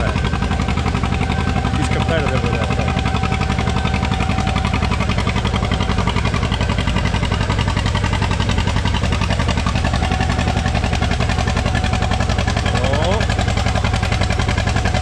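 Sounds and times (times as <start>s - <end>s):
tractor engine pulsing under load: 0.0s - 15.0s.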